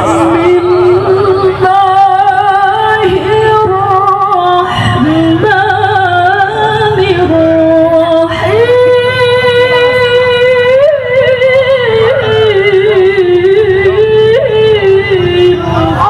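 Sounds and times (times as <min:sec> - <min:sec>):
woman chanting melodically: 0:00.0 - 0:16.0.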